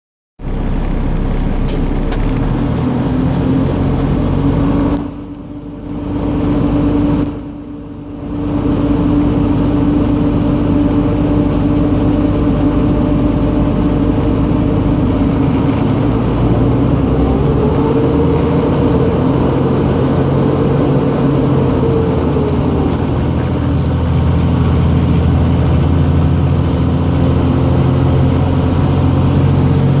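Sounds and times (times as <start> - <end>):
truck engine running: 0.4 - 30.0.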